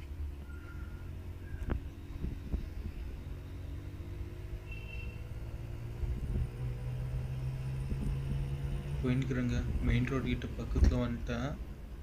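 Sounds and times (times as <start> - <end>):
road rumble: 0.0 - 12.0.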